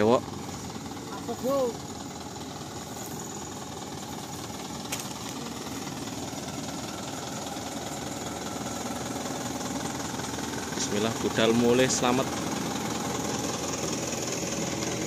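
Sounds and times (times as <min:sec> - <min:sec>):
diesel engine idling with clatter: 0:00.0 - 0:15.0.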